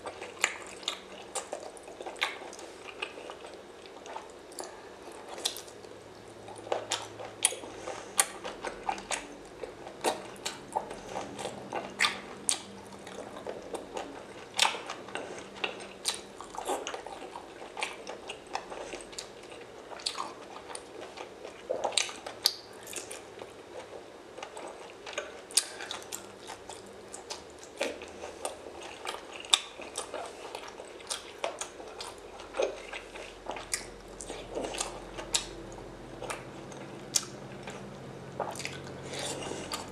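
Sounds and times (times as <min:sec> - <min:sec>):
wet chewing of seafood: 0:00.0 - 0:39.9.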